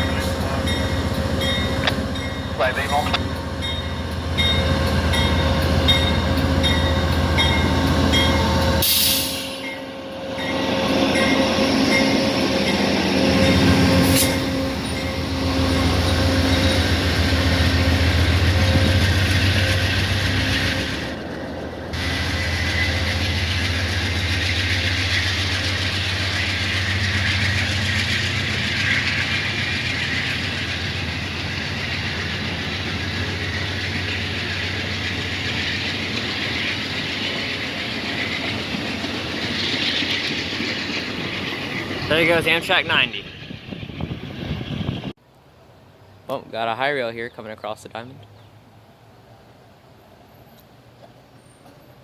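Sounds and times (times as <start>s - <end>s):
passenger train rumbling past: 0.0s - 46.2s.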